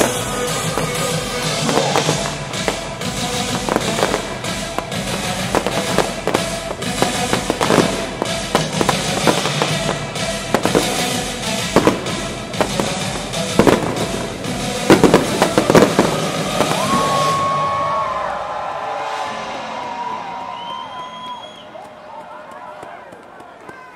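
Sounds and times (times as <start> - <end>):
fireworks bangs and crackles: 0.0 - 18.2, 21.3 - 23.9
background music: 0.0 - 22.2.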